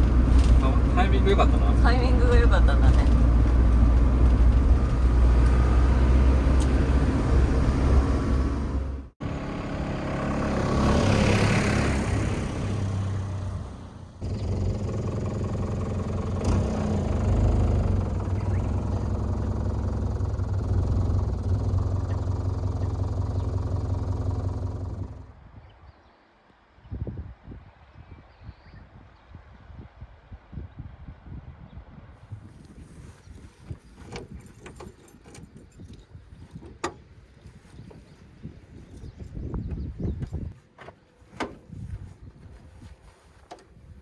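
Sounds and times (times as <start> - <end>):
bus engine and road noise: 0.0 - 25.6, 32.2 - 44.0.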